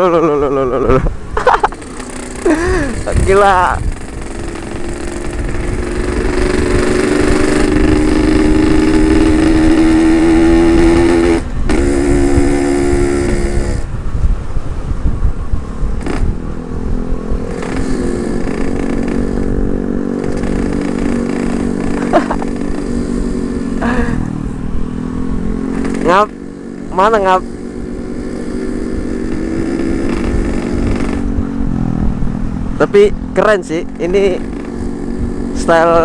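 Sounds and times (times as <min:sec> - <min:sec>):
wind rumble on microphone: 0:00.0 - 0:36.0
two-stroke motorcycle engine: 0:01.4 - 0:14.0, 0:16.0 - 0:36.0.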